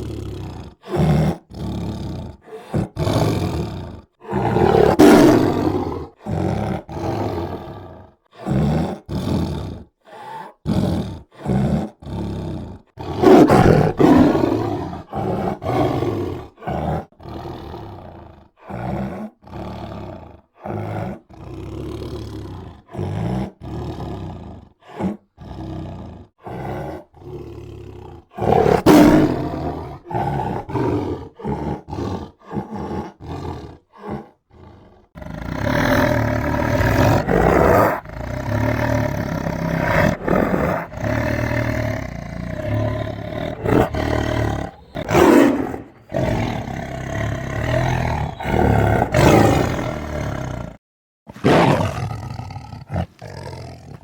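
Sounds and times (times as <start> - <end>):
tiger roaring and growling: 0.0 - 54.0.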